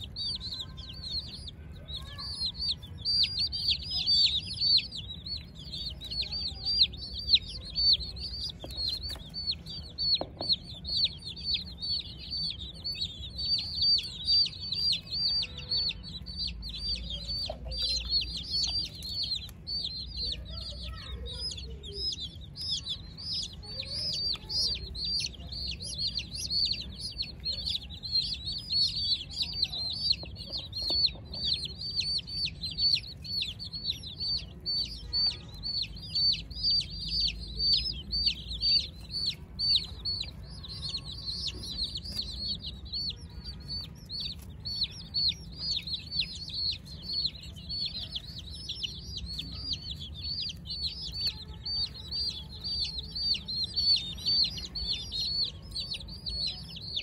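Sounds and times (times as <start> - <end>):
baby chicks peeping: 0.0 - 57.0.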